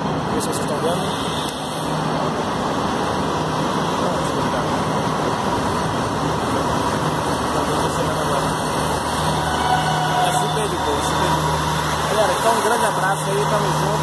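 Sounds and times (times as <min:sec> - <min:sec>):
passenger train rumbling past: 0:00.0 - 0:14.0.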